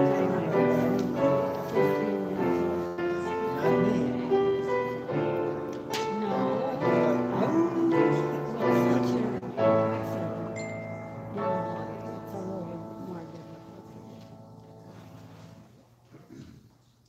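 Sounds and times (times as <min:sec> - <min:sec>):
slow piano chords: 0:00.0 - 0:16.5.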